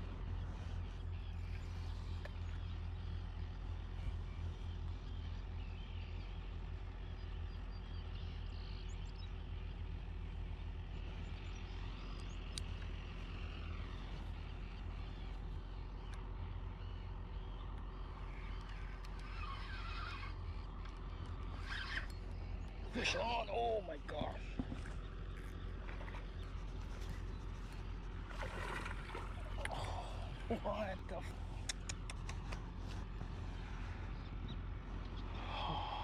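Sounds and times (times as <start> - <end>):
birds chirping: 0.0 - 36.0
steady low rumble: 0.0 - 36.0.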